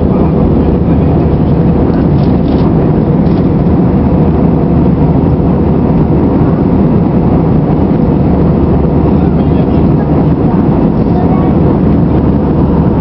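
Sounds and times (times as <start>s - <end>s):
jet engines in cabin: 0.0s - 13.0s
rushing airflow: 0.0s - 13.0s.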